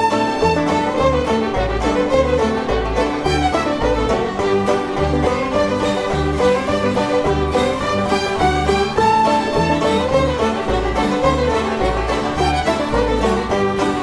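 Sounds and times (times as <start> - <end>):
fiddle tune: 0.0 - 14.0
steady bass notes: 0.0 - 14.0.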